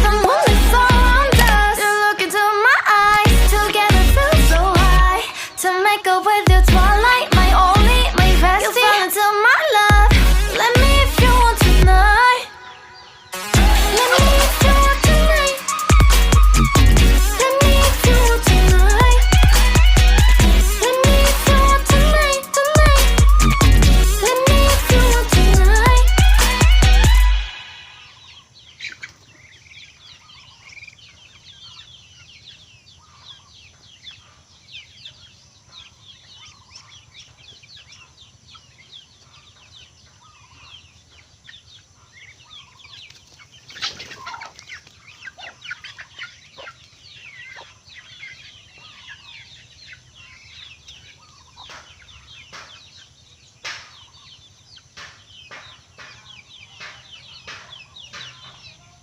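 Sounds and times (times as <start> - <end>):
poultry peeping and clucking: 0.0 - 59.0.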